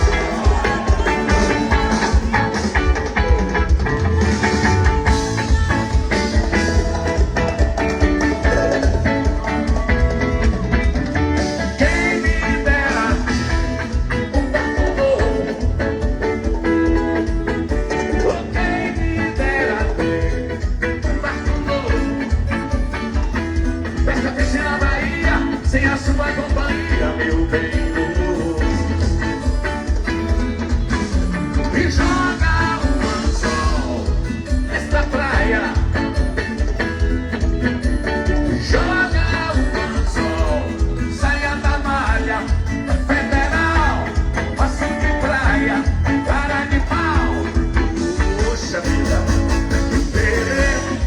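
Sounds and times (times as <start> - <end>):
live band music over loudspeakers: 0.0 - 51.0.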